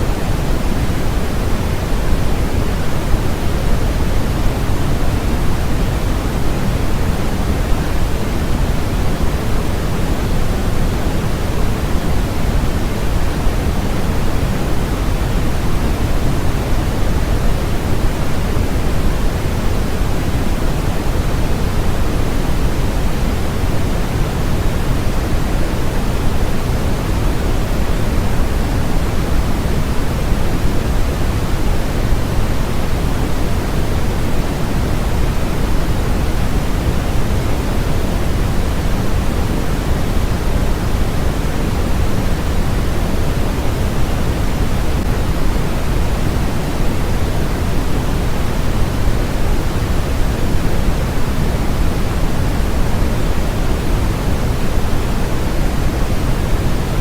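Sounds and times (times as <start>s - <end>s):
low steady noise hiss: 0.0s - 57.0s.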